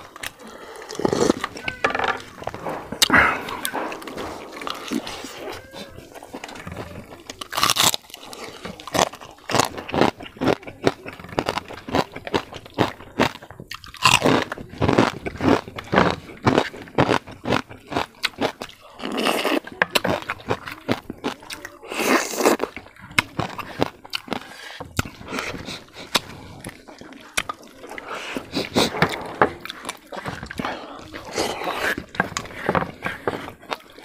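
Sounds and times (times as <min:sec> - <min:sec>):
crunchy chewing: 0:00.0 - 0:34.0.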